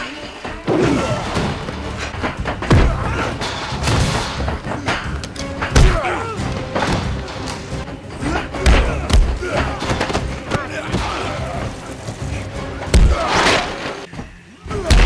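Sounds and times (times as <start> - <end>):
film soundtrack music: 0.0 - 15.0.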